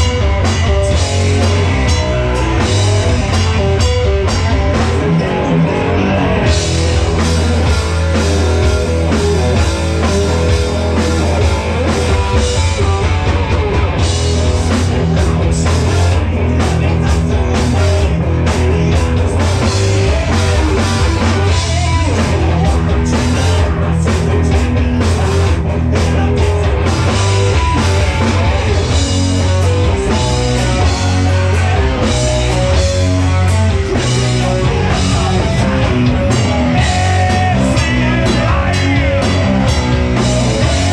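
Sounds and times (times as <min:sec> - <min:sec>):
drum kit: 0:00.0 - 0:40.9
electric guitar: 0:00.0 - 0:40.9
heavy bass line: 0:00.0 - 0:40.9.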